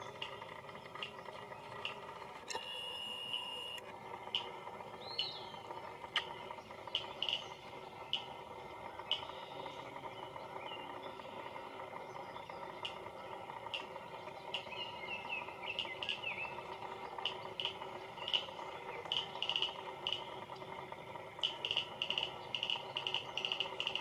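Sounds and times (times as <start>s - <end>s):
faint steady hum: 0.0s - 24.0s
twittering calls: 0.0s - 24.0s
high chirps and clicks: 3.3s - 24.0s.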